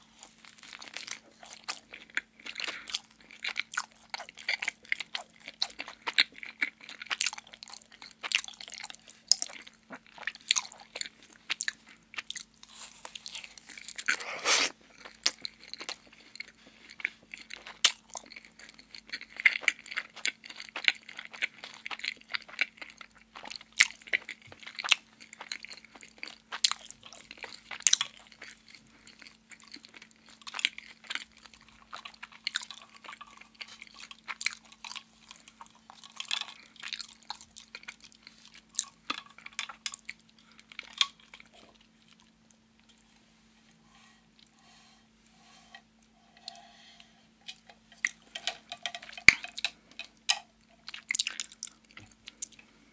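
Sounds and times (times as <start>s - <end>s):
chewing with wet mouth smacks: 0.2s - 43.0s, 47.5s - 52.8s.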